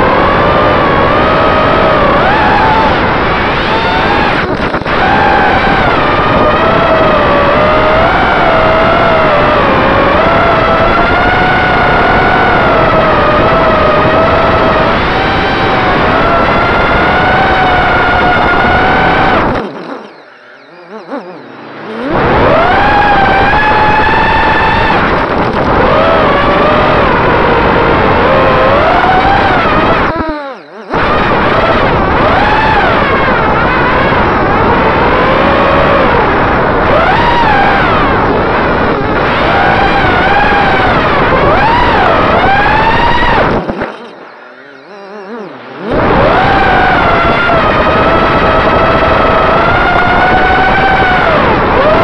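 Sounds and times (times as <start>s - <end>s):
drone motors whining: 0.0s - 52.0s.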